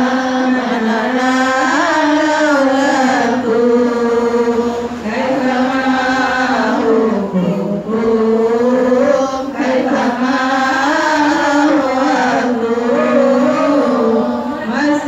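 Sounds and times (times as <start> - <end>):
voices chanting devotional song: 0.0 - 15.0.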